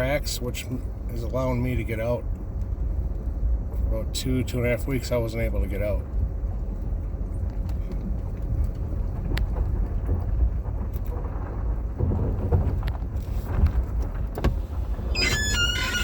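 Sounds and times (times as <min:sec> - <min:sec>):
vehicle rumble from inside cab: 0:00.0 - 0:16.0.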